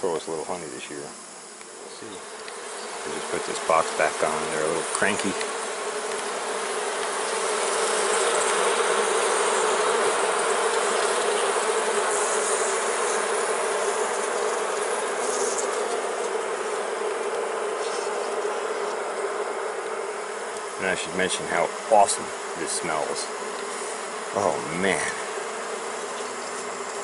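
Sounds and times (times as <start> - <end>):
honey bees buzzing: 0.0 - 27.0.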